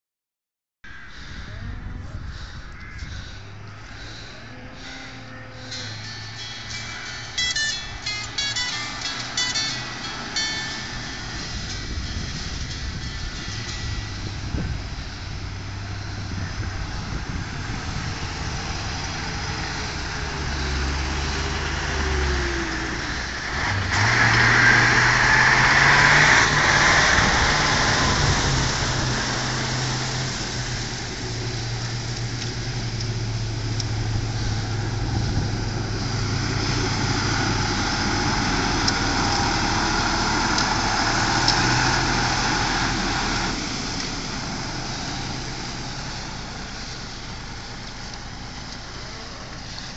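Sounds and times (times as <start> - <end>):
truck engine under load: 1.3 - 49.9
water splashing: 3.1 - 49.9.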